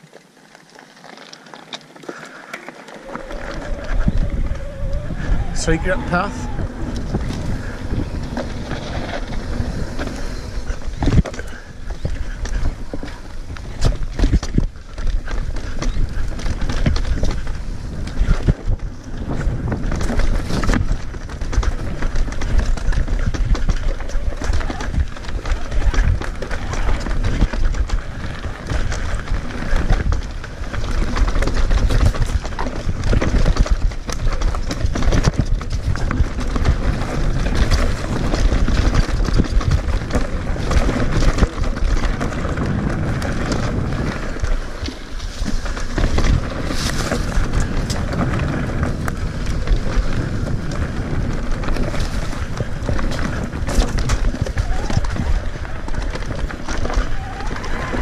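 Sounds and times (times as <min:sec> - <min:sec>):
tyres rumbling on dirt: 0:00.0 - 0:58.0
wind on microphone: 0:02.9 - 0:58.0
bike knocks and rattles: 0:06.5 - 0:58.0.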